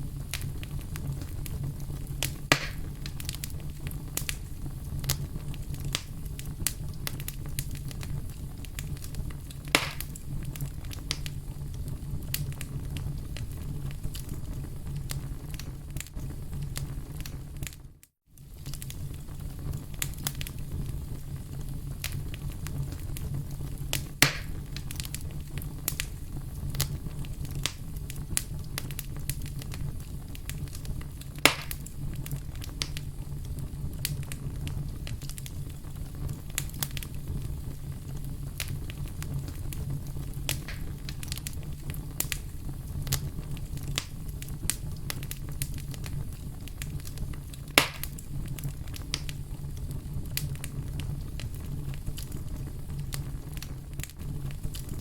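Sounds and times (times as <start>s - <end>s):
sharp fire pops: 0.0s - 17.8s, 18.4s - 55.0s
fire crackling: 0.0s - 55.0s.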